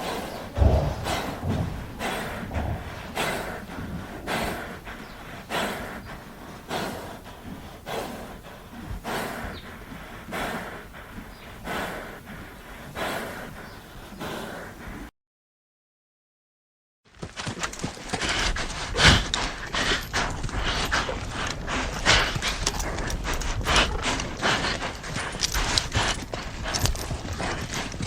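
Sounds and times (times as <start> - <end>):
horse breathing heavily: 0.0 - 15.1, 17.3 - 28.0.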